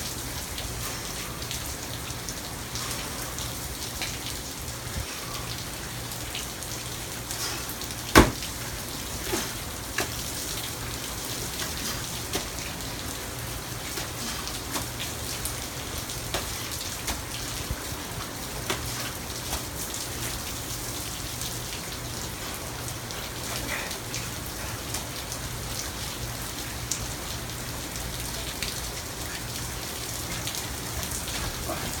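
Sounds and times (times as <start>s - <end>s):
raindrops ticking close by: 0.0s - 32.0s
steady rain: 0.0s - 32.0s.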